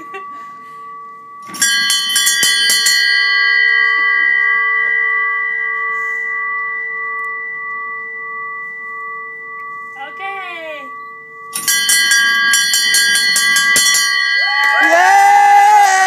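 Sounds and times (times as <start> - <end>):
small brass bell ringing: 0.0 - 16.0.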